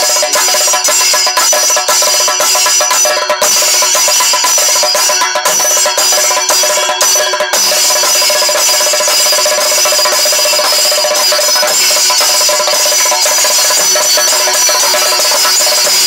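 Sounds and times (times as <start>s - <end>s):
drums in fast roll: 0.0s - 16.0s
hand cymbals ringing: 0.0s - 16.0s.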